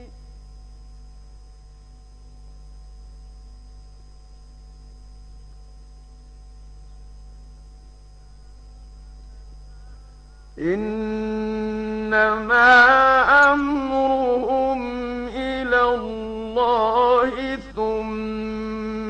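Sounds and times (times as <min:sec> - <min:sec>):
electrical mains hum: 0:00.0 - 0:19.0
faint recording hiss: 0:00.0 - 0:19.0.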